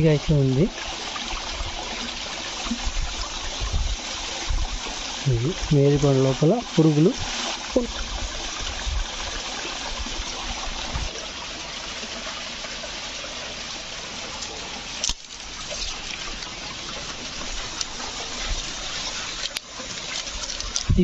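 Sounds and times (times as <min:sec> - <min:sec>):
water trickling over rocks: 0:00.0 - 0:21.0.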